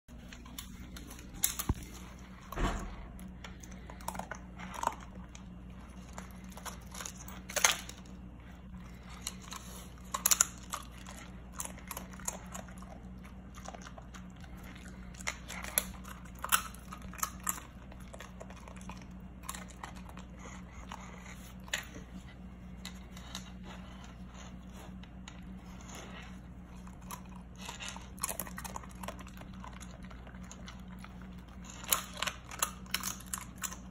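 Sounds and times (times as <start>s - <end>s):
dog crunching chips: 0.1s - 2.7s, 3.5s - 33.9s
steady low hum: 0.1s - 33.9s.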